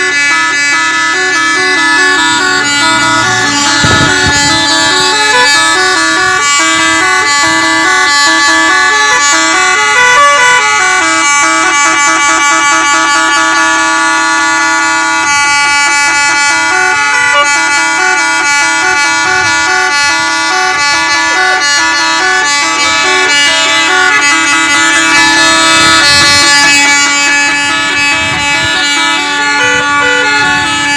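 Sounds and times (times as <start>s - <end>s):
musical vehicle horn tune: 0.0s - 30.9s.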